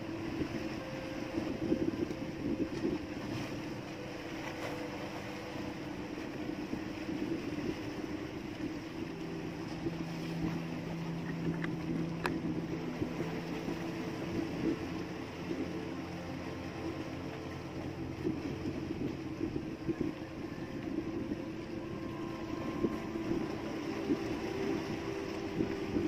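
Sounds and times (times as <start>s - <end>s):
lower hum: 0.0s - 26.0s
small boat engine humming: 0.0s - 26.0s.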